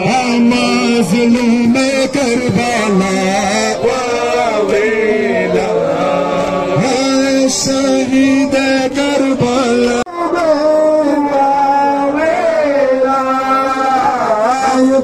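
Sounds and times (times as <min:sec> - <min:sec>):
men singing a lament: 0:00.0 - 0:15.0.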